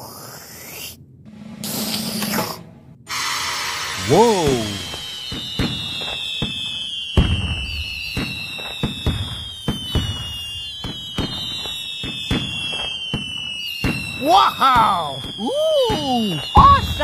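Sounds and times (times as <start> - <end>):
fireworks whistling: 0.3 - 17.0
fireworks bangs and crackles: 3.1 - 17.0.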